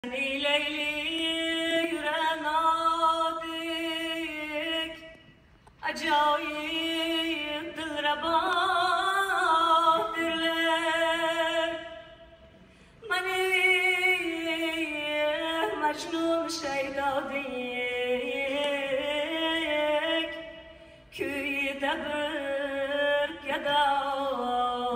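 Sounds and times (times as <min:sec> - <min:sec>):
woman singing into microphone: 0:00.0 - 0:05.1, 0:05.8 - 0:12.2, 0:13.0 - 0:24.9.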